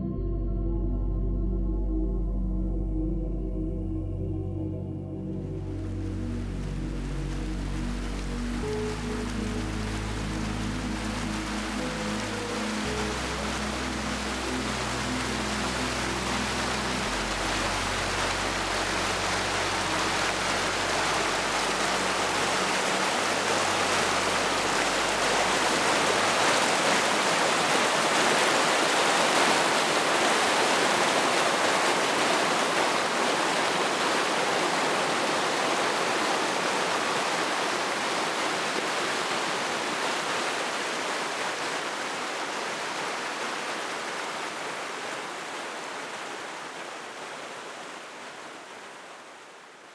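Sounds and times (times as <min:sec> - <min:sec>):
stream rushing over rocks: 0:05.5 - 0:49.9.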